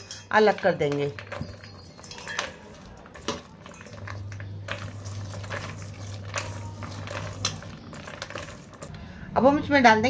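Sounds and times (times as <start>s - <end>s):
onion pieces clicking in steel bowl: 0.0s - 8.9s.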